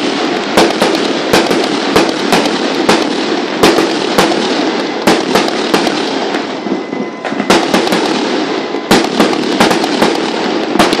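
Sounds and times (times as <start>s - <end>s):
firecrackers crackling: 0.0s - 11.0s
sharp firecracker bangs: 0.0s - 11.0s.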